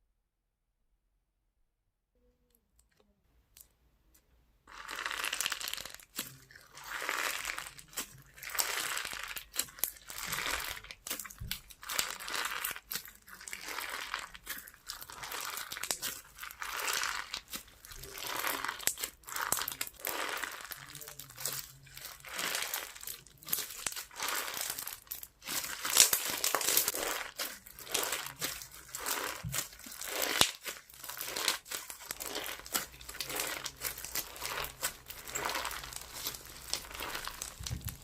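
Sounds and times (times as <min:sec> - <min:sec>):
crunchy slime crackling and popping: 0:04.7 - 0:38.0.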